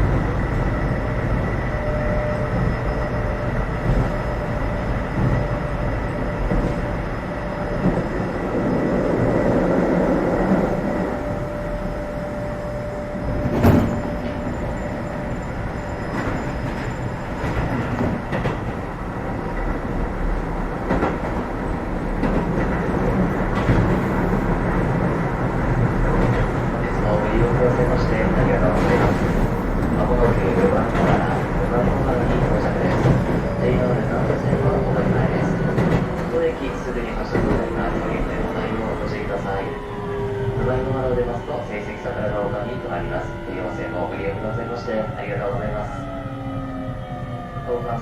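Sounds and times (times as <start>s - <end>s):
train wheels rumbling: 0.0s - 48.0s.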